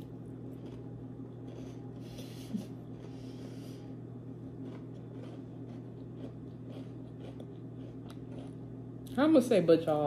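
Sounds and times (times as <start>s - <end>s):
person chewing crunchy food: 0.0s - 9.0s
low electrical hum: 0.0s - 10.0s.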